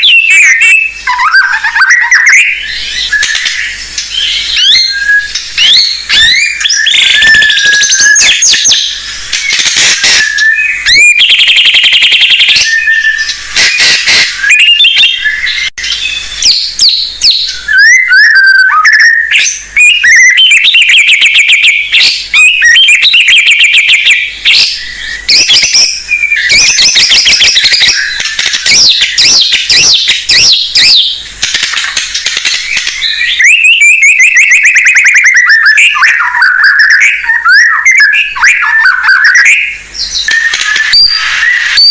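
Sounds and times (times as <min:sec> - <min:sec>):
bird singing: 0:00.0 - 0:41.9.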